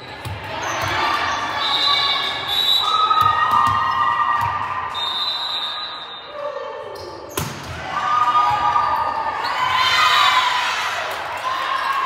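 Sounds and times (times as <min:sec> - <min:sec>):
crowd cheering and shouting: 0:00.3 - 0:07.0, 0:07.6 - 0:12.0.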